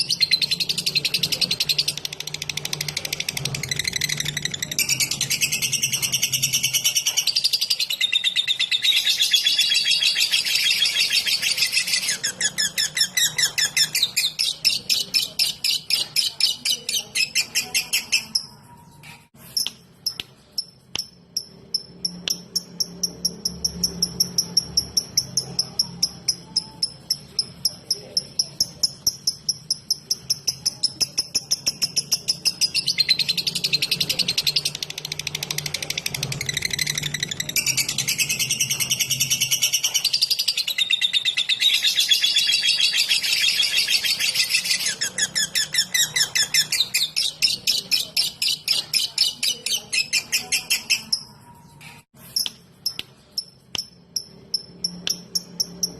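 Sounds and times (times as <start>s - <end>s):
lovebird rapid chirping: 0.0s - 55.9s.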